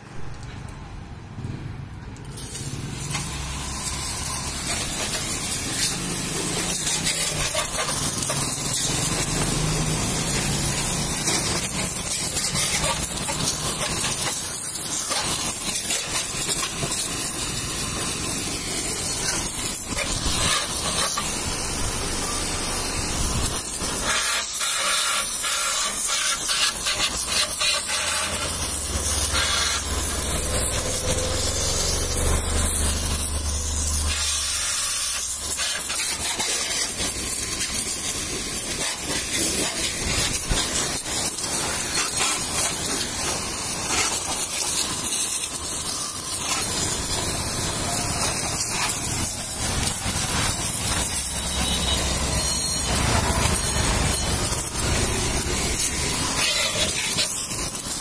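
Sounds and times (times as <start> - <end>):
pressure washer spraying water: 2.2 - 58.0.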